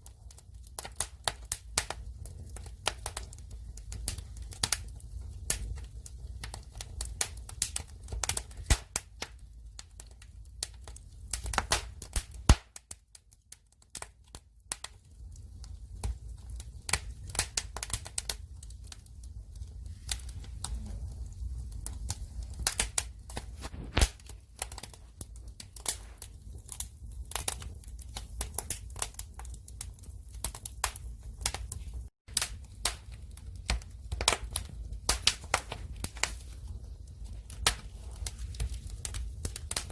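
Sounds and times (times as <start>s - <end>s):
firewood crackling and popping: 0.0s - 39.9s
low fire rumble: 0.0s - 39.9s.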